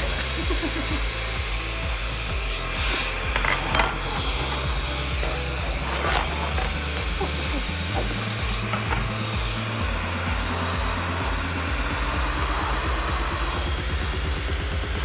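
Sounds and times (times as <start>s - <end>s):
blower fan rushing air: 0.0s - 15.0s.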